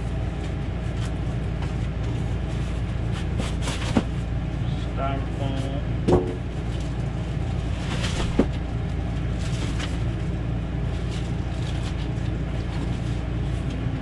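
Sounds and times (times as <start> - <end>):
steady low hum: 0.0 - 14.0
cardboard and plastic rustling: 0.3 - 4.3, 6.2 - 14.0.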